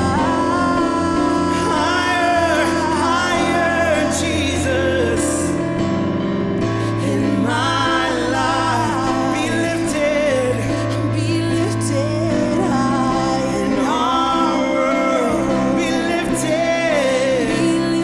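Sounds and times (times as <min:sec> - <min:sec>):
person singing ad-libbed melody: 0:00.0 - 0:05.8, 0:06.8 - 0:18.0
band holding sustained chords: 0:00.0 - 0:18.0.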